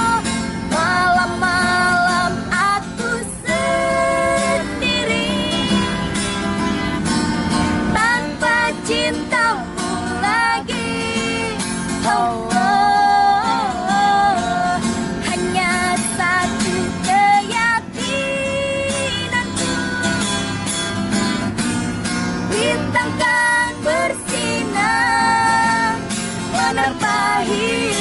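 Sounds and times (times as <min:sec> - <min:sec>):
woman singing: 0:00.0 - 0:20.5, 0:22.5 - 0:28.0
guitar: 0:00.0 - 0:28.0.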